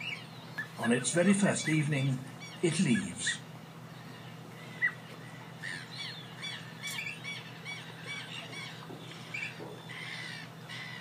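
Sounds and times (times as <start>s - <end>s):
duckling peeping: 0.0s - 11.0s
faint low hum: 0.0s - 11.0s.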